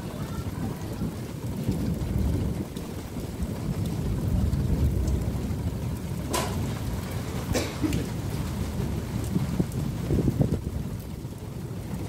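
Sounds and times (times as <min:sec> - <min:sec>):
rain: 0:00.0 - 0:12.0
thunder rumbling: 0:00.0 - 0:12.0.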